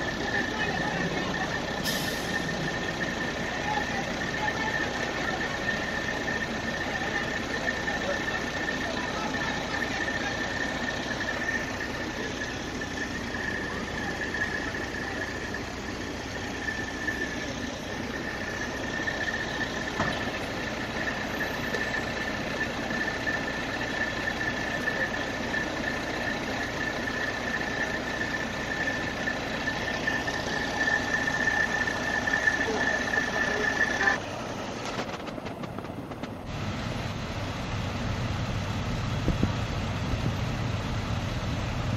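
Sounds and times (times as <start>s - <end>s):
high-pitched whine: 0.0s - 38.1s
fire engine running: 0.0s - 41.9s.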